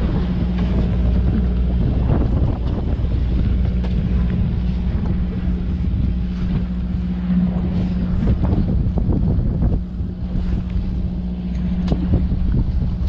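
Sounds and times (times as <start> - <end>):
boat engine droning: 0.0 - 13.0
wind buffeting microphone: 0.0 - 13.0.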